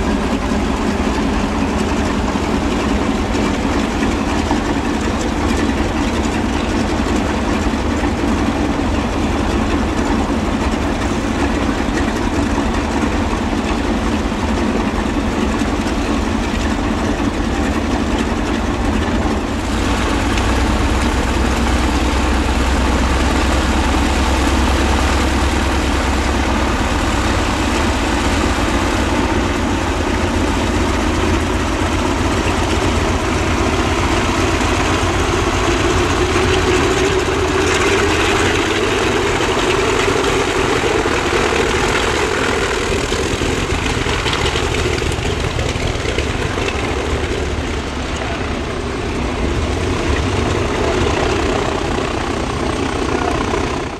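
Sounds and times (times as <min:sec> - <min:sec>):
radial piston engines running: 0:00.0 - 0:53.9.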